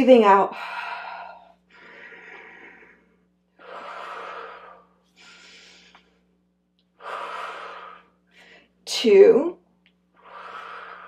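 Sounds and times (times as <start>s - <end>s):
woman breathing: 0.5s - 8.8s, 10.1s - 11.0s.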